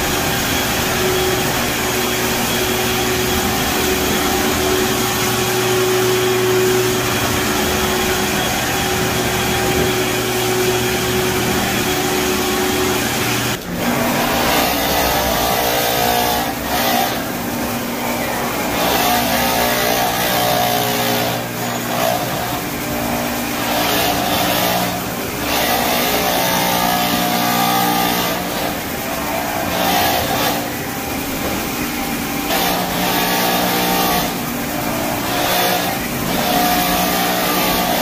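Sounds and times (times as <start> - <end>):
floor scrubber motors humming: 0.0 - 38.0.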